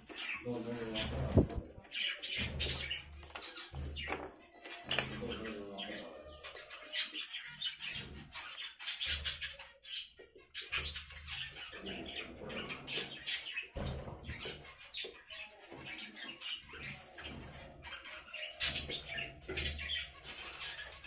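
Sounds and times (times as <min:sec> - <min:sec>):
budgerigars chattering: 0:00.0 - 0:21.0.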